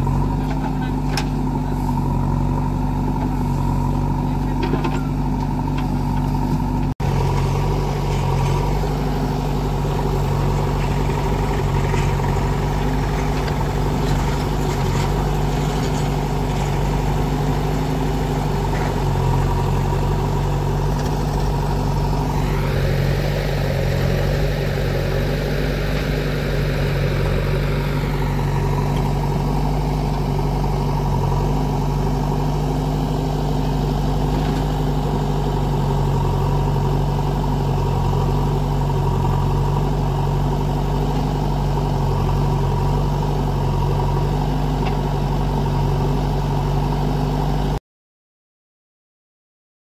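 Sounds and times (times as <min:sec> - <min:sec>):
diesel engines running: 0:00.0 - 0:47.8
higher rougher engine noise: 0:00.0 - 0:47.8.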